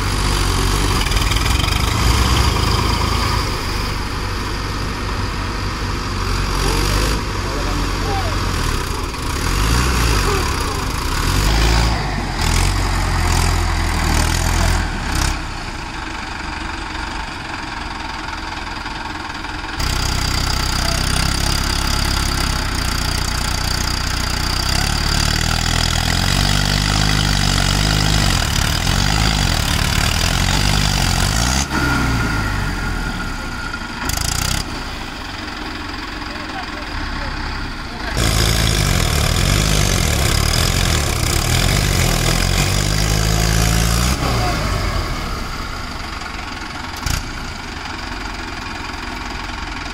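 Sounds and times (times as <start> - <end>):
heavier engine revving: 0.0 - 16.3, 19.8 - 48.6
diesel tractor engines running: 0.0 - 49.9.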